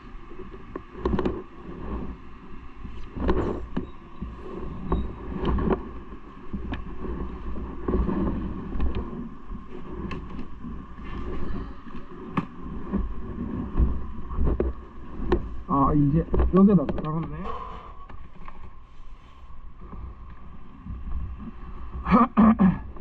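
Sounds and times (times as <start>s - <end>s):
wind and road rumble: 0.0s - 23.0s.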